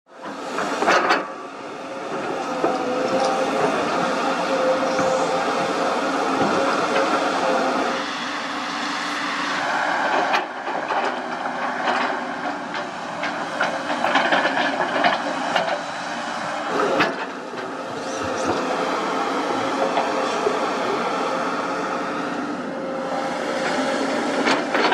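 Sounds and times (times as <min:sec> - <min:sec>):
excavator diesel engine running: 0:00.1 - 0:24.9.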